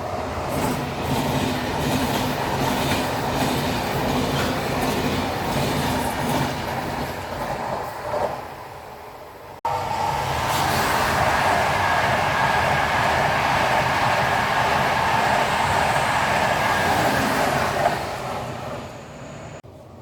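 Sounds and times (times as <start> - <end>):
train passing at speed: 0.0 - 20.0.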